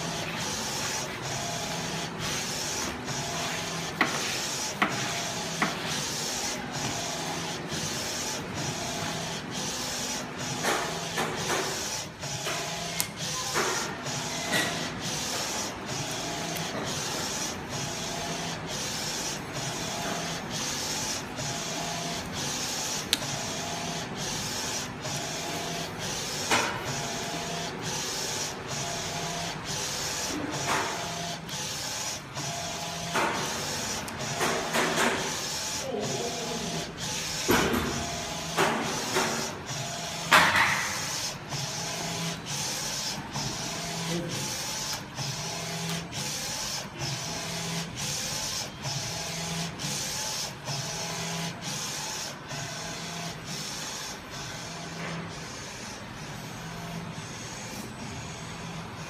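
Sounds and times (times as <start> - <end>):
printer carriage moving back and forth: 0.0 - 59.0.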